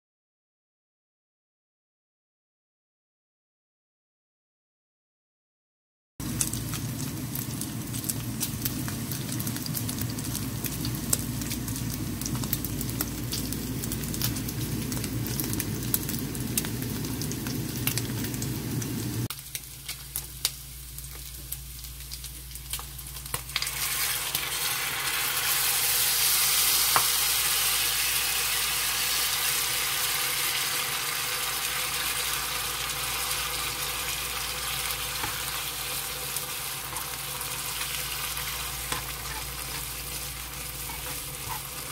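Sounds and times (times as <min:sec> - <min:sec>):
meat sizzling in a frying pan: 0:06.2 - 0:41.9.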